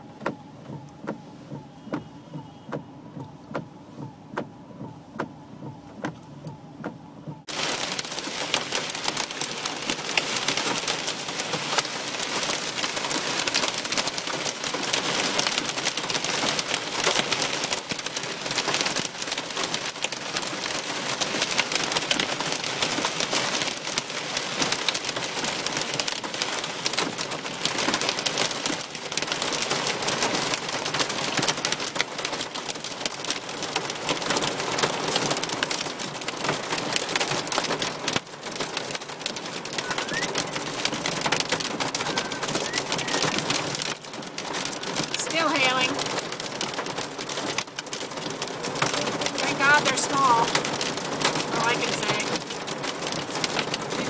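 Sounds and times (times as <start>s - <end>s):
hail and rain drumming on car roof: 6.8s - 54.0s.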